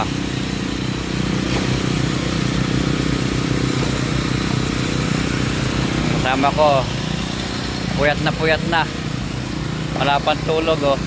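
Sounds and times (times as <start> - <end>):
small machinery engine running: 0.0 - 11.0.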